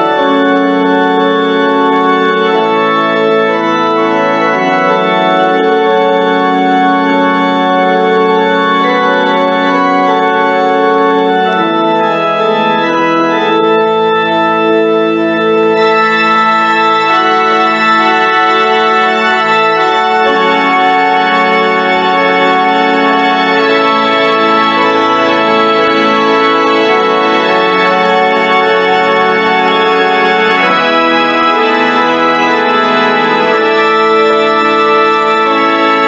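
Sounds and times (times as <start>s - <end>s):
organ playing held chords: 0.0s - 36.0s.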